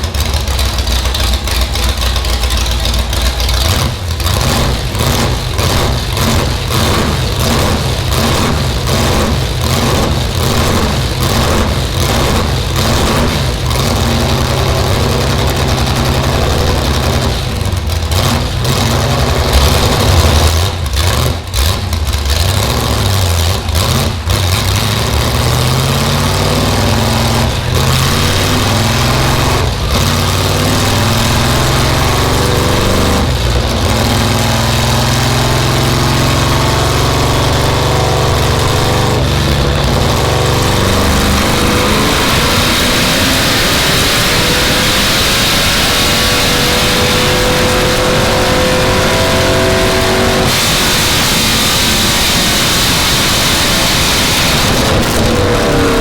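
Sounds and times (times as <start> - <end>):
loud race car engine revving: 0.0 - 56.0.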